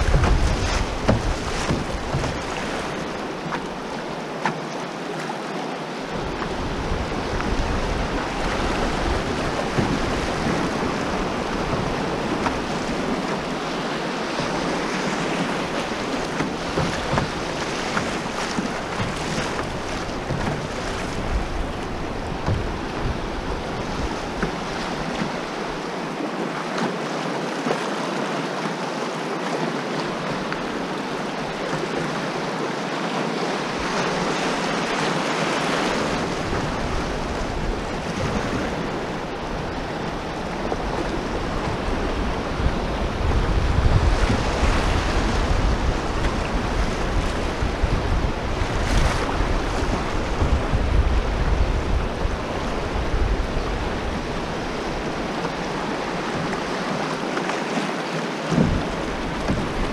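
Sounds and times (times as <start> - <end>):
wind buffeting microphone: 0.0 - 4.0, 6.1 - 26.0, 33.6 - 57.1, 58.4 - 59.9
whitewater rapids rushing: 0.0 - 59.9.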